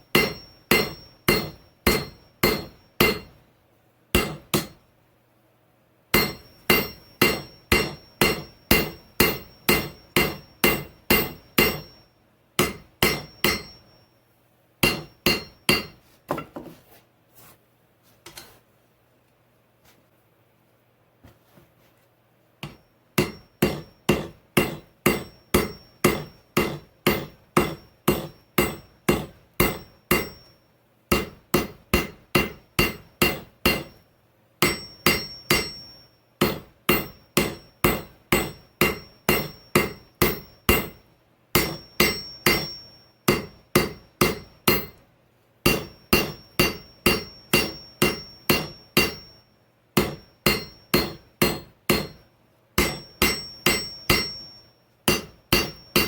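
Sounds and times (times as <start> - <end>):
hammer striking steel on anvil: 0.0 - 3.4, 4.2 - 4.9, 6.1 - 14.1, 14.8 - 16.6, 22.6 - 34.0, 34.6 - 45.0, 45.6 - 49.4, 50.0 - 56.0.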